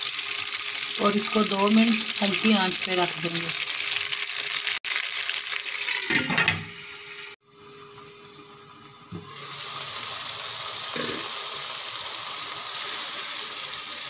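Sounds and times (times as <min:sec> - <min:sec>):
masala sizzling in a wok: 0:00.0 - 0:14.0.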